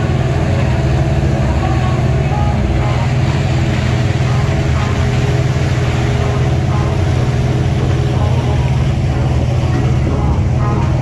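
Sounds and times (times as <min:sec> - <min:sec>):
boat engine humming: 0:00.0 - 0:11.0
water rushing in wake: 0:00.0 - 0:11.0.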